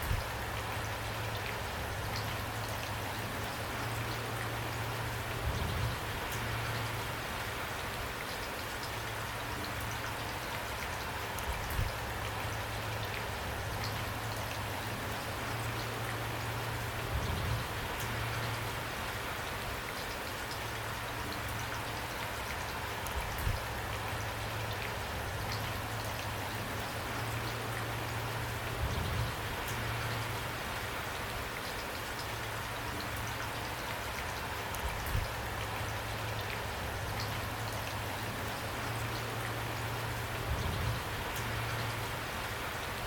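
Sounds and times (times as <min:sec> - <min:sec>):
rain falling on a surface: 0:00.0 - 0:43.0.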